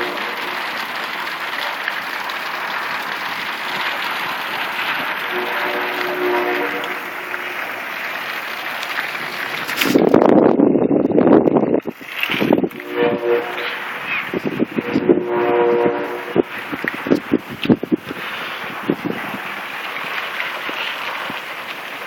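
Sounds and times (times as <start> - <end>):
hissing flood water: 0.0 - 10.2, 11.8 - 22.0
rough rumbling noise: 0.0 - 22.0.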